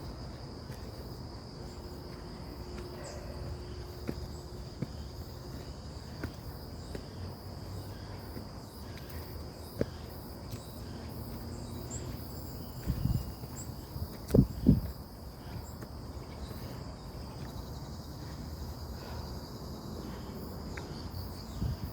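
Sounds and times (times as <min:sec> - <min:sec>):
insects trilling: 0:00.0 - 0:21.9.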